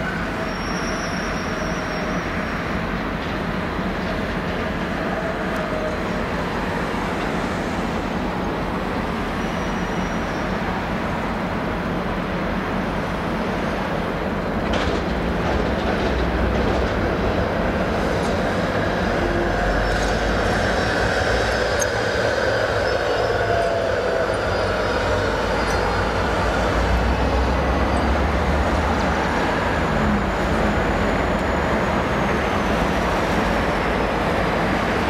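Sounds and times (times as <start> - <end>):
diesel locomotives rumbling: 0.0 - 35.0.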